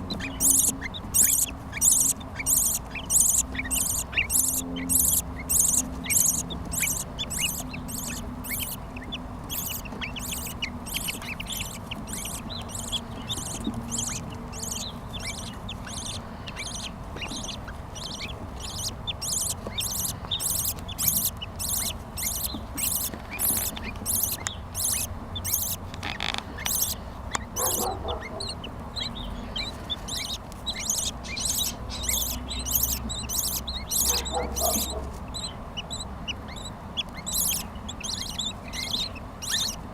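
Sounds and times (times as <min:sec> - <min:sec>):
budgerigars calling: 0:00.0 - 0:39.9.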